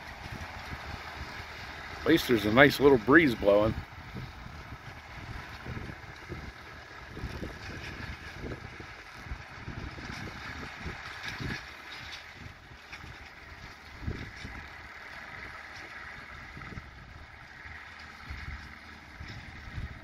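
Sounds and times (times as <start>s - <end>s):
tractor engine running: 0.0s - 20.0s
wind buffeting microphone: 0.0s - 20.0s.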